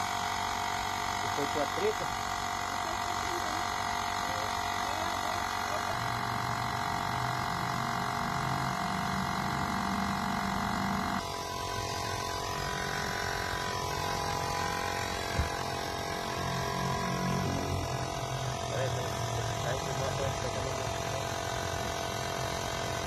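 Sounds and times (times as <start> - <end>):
air compressor buzzing: 0.0 - 23.0.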